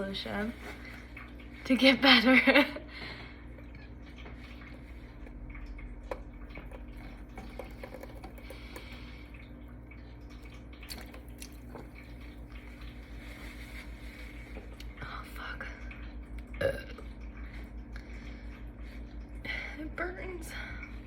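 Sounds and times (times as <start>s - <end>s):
liquid draining and dripping: 0.0s - 21.0s
steady low hum: 0.0s - 21.0s.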